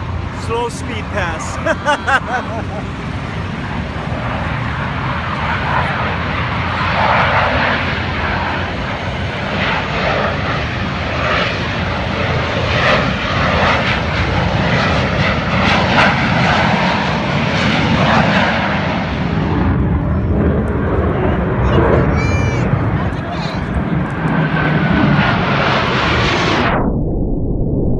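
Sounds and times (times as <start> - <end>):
airplane flying overhead: 0.0 - 26.9.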